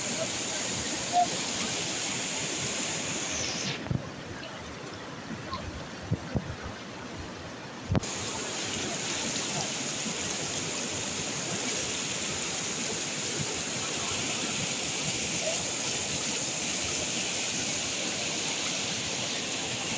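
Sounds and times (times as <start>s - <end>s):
river rushing over rocks: 0.0s - 19.9s.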